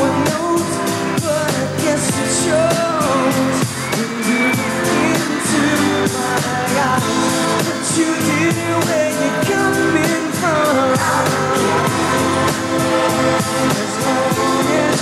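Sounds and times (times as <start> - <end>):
male group singing: 0.0 - 15.0
pop music with steady beat: 0.0 - 15.0.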